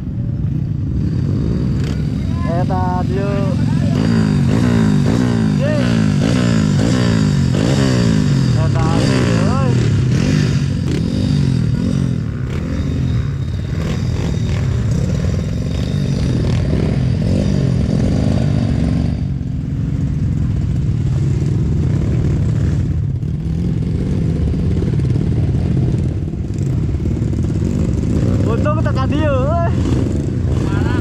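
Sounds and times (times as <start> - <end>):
dirt bike engine revving: 0.5 - 31.0.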